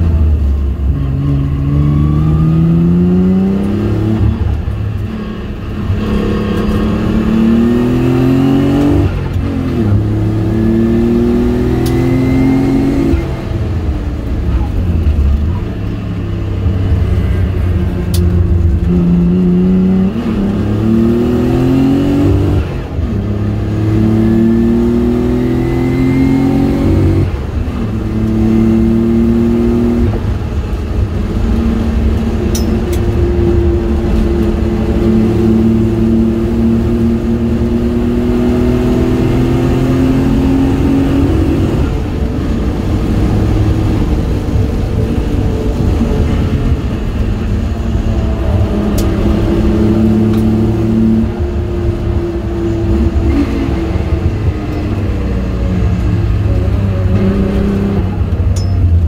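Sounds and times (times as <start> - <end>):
car engine pulling through gears: 0.0 - 59.0.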